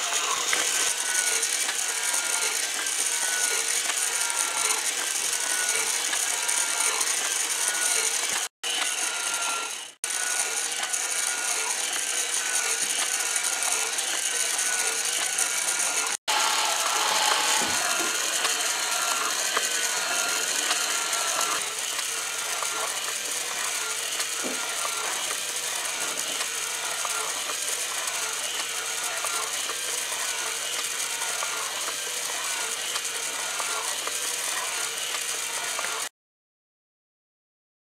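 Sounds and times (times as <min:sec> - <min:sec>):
faint motor whine: 0:00.0 - 0:36.1.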